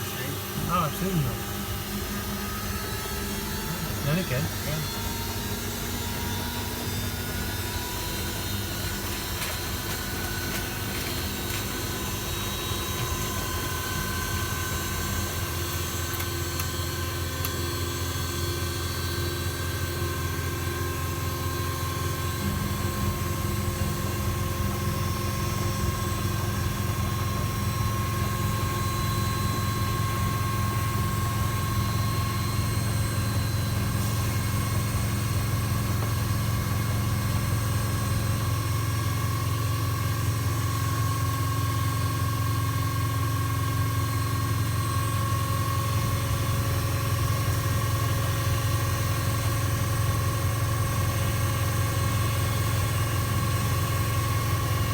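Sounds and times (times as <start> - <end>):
washing machine motor humming: 0.0 - 54.9.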